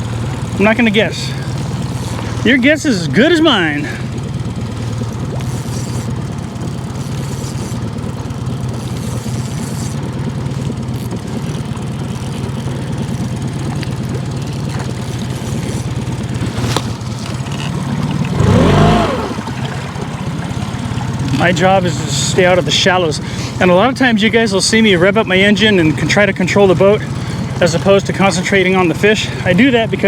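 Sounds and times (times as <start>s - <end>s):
outboard motor humming: 0.0s - 30.0s.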